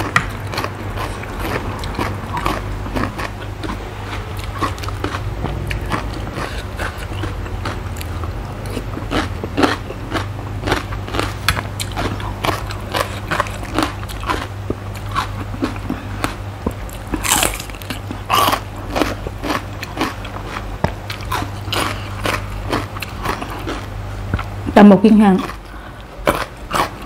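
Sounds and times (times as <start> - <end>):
crunching and chewing raw vegetables: 0.0 - 27.0.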